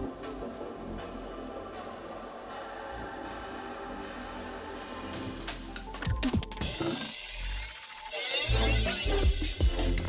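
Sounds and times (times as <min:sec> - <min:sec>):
background music with sustained tones: 0:00.0 - 0:10.0.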